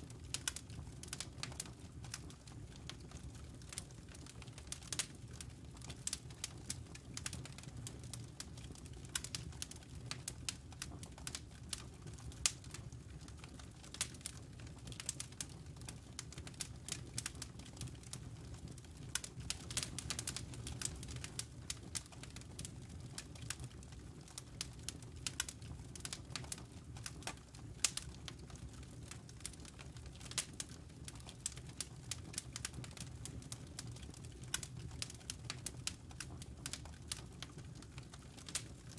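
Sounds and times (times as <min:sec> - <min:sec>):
campfire wood crackling and popping: 0:00.0 - 0:38.9.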